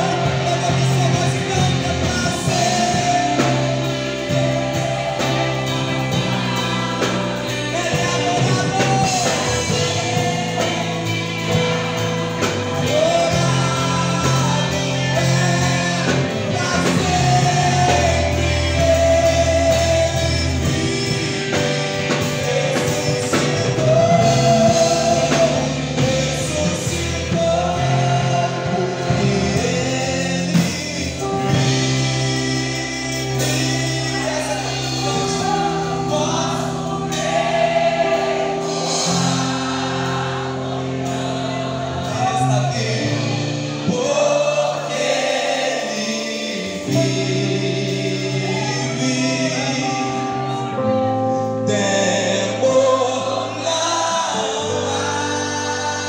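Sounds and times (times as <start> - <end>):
man singing into a microphone: 0.0 - 37.3, 42.0 - 56.0
instrumental backing: 0.0 - 56.0.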